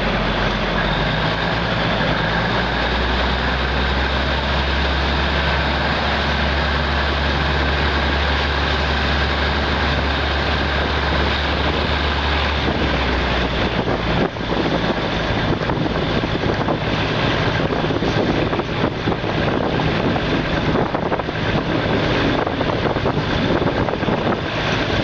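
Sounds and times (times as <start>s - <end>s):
low hum: 0.0s - 25.0s
train wheels rumbling on rails: 0.0s - 25.0s
wind buffeting microphone: 0.0s - 25.0s.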